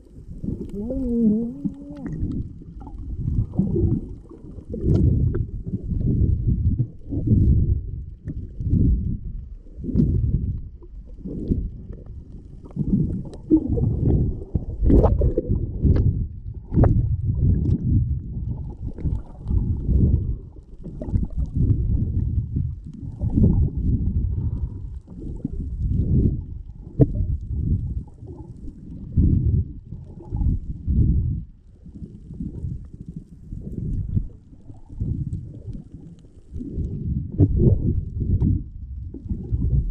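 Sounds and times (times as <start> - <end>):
underwater water rushing rumble: 0.0 - 39.9.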